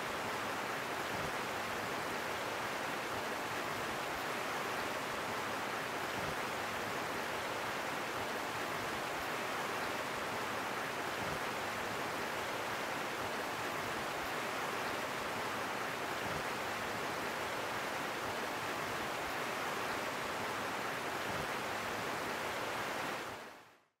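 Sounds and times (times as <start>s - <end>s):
river water rushing over rocks: 0.0s - 23.6s.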